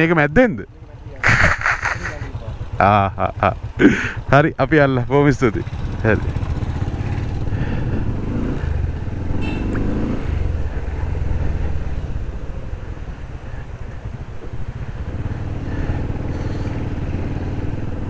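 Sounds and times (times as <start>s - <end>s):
motorcycle engine accelerating: 0.9s - 18.0s.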